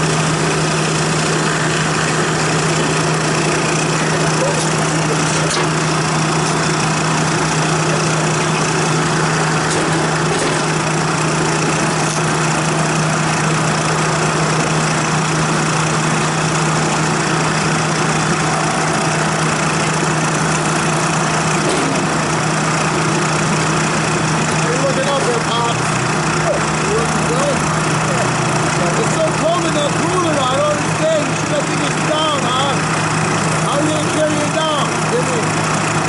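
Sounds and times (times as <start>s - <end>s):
machine running with low hum: 0.0s - 36.0s.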